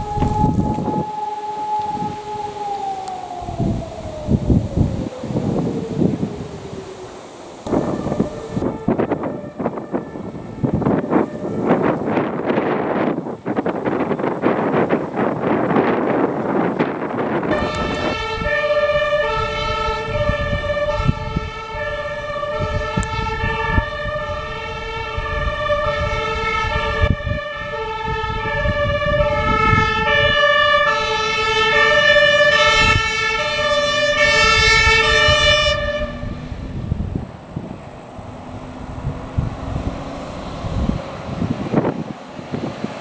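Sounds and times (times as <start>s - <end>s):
fire engine two-tone siren: 0.0s - 43.0s
road noise: 0.0s - 43.0s
truck engine rumble: 0.0s - 43.0s.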